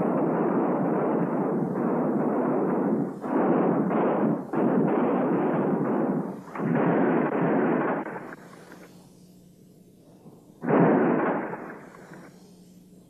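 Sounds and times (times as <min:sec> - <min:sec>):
dynamite explosions: 0:00.0 - 0:09.0, 0:10.6 - 0:12.5.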